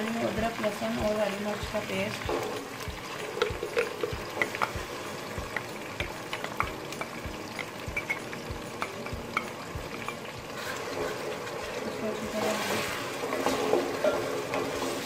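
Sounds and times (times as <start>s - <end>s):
hot oil sizzling and popping: 0.0s - 15.0s
wooden spoon stirring: 2.3s - 15.0s.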